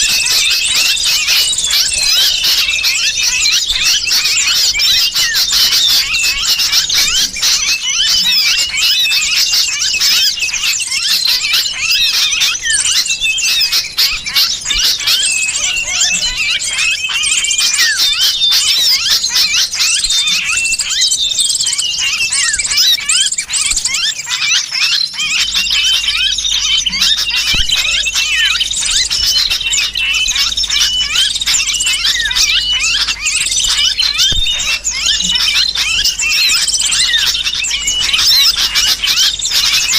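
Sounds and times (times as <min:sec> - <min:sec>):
chorus of small birds chirping: 0:00.0 - 0:39.9
harsh bird distress calls: 0:00.0 - 0:39.9.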